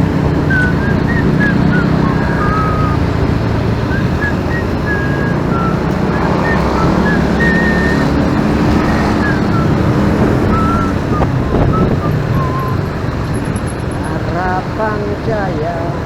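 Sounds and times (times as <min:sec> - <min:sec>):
motorcycle engine and road rumble: 0:00.0 - 0:16.0
wind buffeting microphone: 0:00.0 - 0:16.0.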